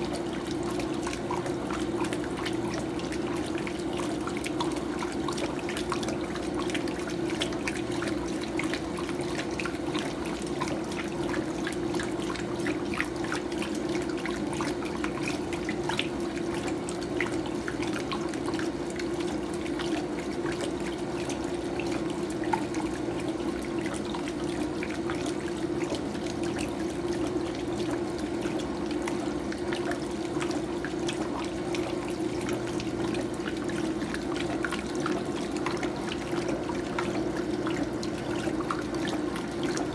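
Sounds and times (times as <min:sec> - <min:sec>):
faint crackling splashes: 0:00.0 - 0:39.9
water running into washing machine: 0:00.0 - 0:39.9.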